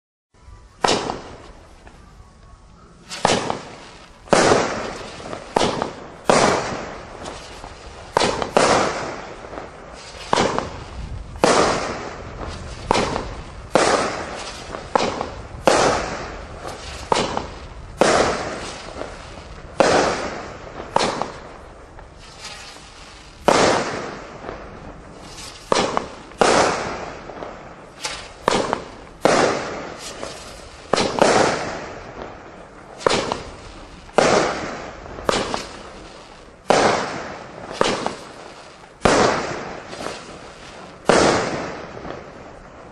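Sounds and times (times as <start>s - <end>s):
firework cake bangs: 0.8s - 1.6s, 3.0s - 42.9s.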